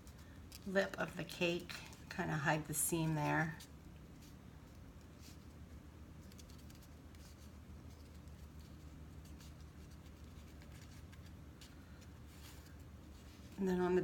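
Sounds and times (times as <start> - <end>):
cardstock rustling and ticking: 0.0 - 13.6
low steady hum: 0.0 - 14.0.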